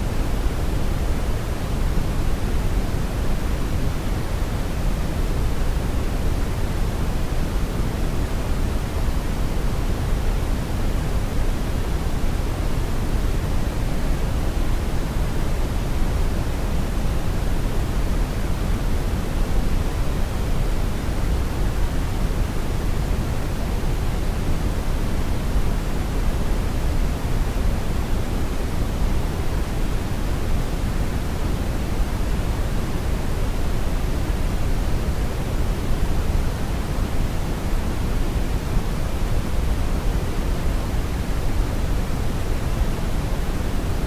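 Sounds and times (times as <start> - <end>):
brown noise hiss: 0.0 - 44.0.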